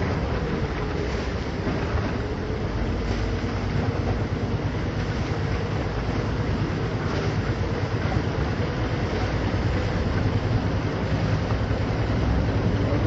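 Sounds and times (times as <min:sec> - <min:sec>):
motorboat engine rumble: 0:00.0 - 0:13.0
water: 0:00.0 - 0:13.0
wind: 0:00.0 - 0:13.0.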